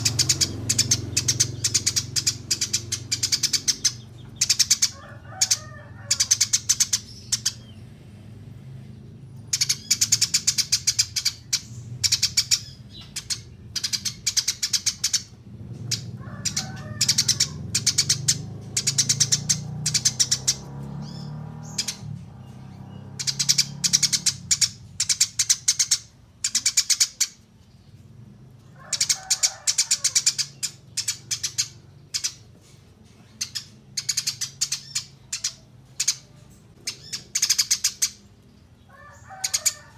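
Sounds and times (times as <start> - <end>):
low chattering bird notes: 0.0 - 8.0, 8.9 - 39.9
sparrows chirping: 0.0 - 39.9.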